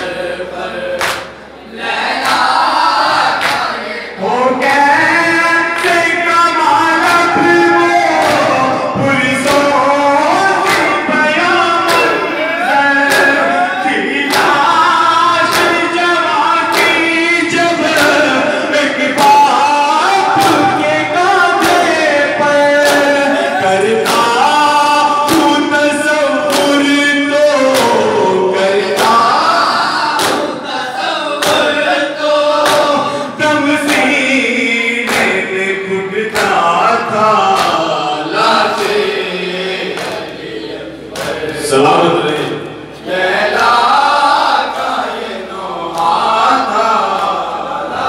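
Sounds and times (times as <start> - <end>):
men chanting in unison: 0.0 - 48.0.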